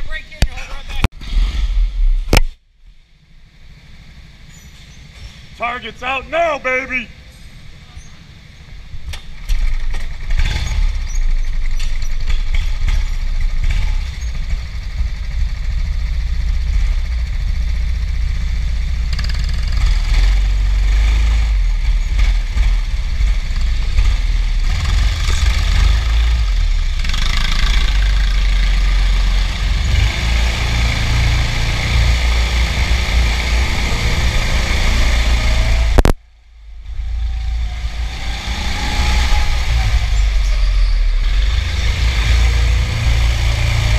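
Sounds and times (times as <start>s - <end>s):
go-kart motor rumbling: 0.0s - 43.9s.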